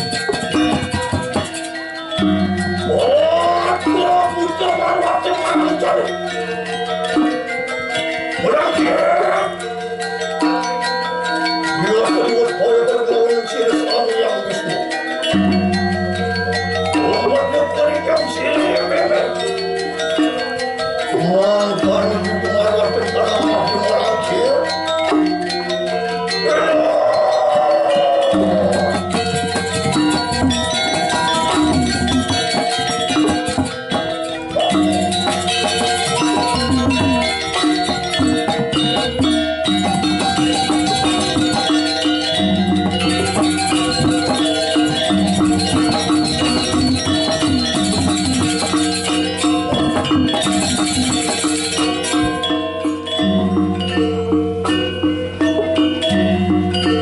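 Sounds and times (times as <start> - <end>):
metallophone ringing: 0.0 - 57.0.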